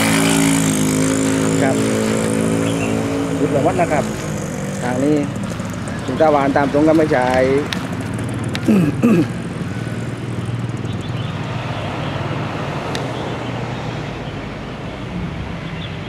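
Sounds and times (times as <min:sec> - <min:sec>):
low engine hum: 0:00.0 - 0:15.9.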